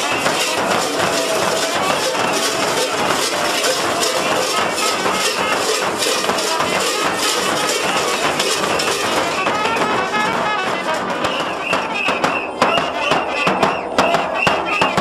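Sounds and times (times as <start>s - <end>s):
frame drums beaten: 0.0s - 15.0s.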